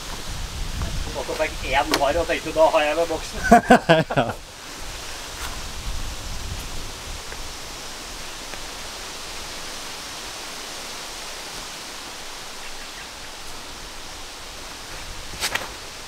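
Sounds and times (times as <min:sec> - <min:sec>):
steady outdoor rushing noise: 0:00.0 - 0:16.0.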